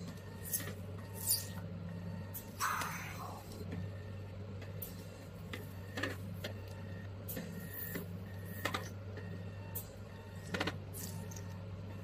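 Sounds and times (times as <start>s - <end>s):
machine low hum: 0.0s - 12.0s.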